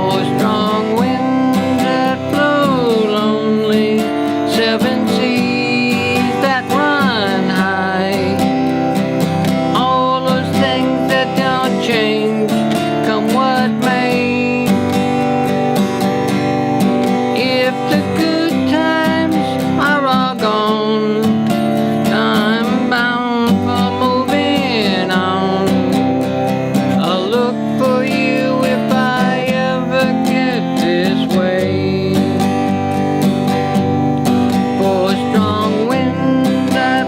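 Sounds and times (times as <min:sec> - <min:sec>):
acoustic guitar strumming: 0:00.0 - 0:37.0
sliding lead melody: 0:00.0 - 0:37.0.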